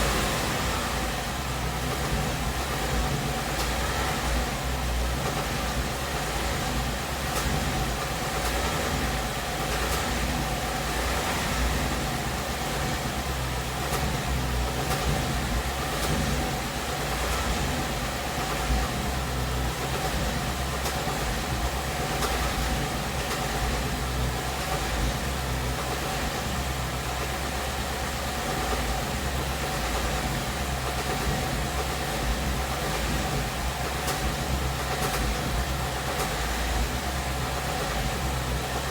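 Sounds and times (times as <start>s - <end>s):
car engine running: 0.0s - 38.9s
light engine ticking: 1.8s - 38.9s.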